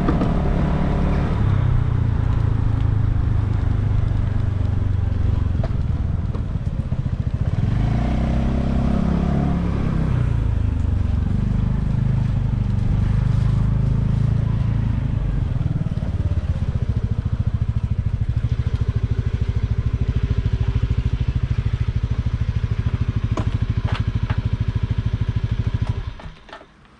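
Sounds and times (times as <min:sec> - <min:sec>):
scooter engine running: 0:00.0 - 0:26.6.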